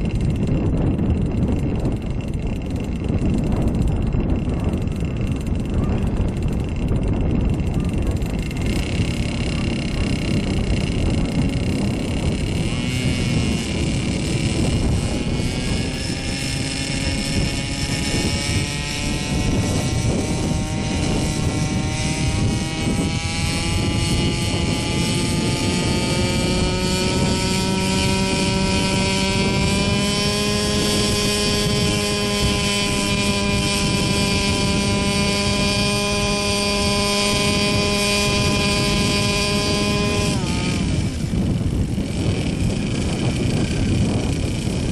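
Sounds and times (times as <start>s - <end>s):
rotor blades rushing: 0.0s - 44.9s
two-stroke engine pitch climbing: 0.0s - 44.9s.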